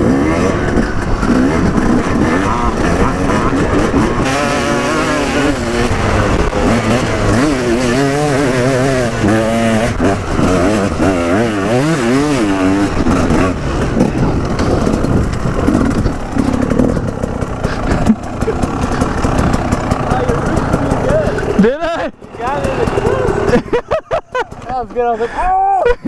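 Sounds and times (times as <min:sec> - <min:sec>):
vehicle engine revving: 0:00.0 - 0:24.8.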